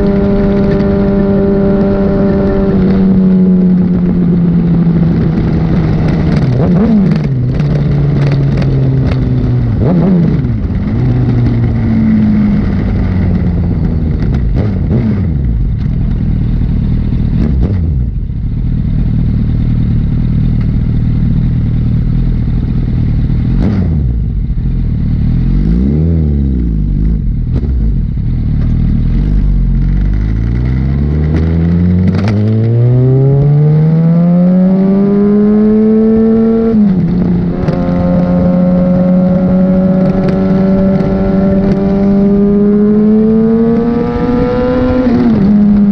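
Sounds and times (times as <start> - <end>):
motorcycle engine revving: 0.0 - 45.9
wind and road noise: 0.0 - 45.9.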